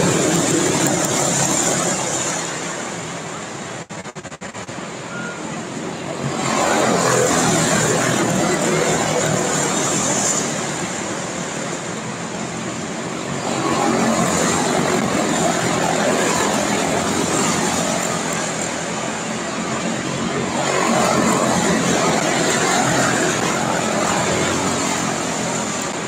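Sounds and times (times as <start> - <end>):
race car engines racing: 0.0 - 26.0.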